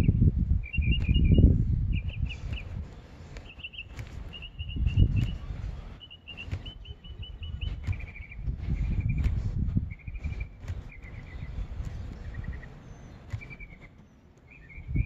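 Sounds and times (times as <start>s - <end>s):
low irregular rumbling: 0.0s - 15.0s
songbird chirping: 0.0s - 15.0s
faint clicks: 2.1s - 15.0s.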